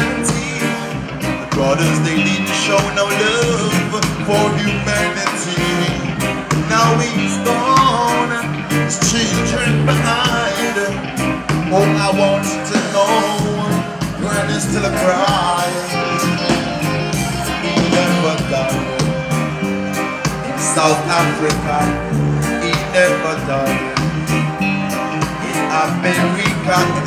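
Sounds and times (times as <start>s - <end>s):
man singing: 0.0s - 24.1s, 25.2s - 27.0s
reggae band playing: 0.0s - 27.0s.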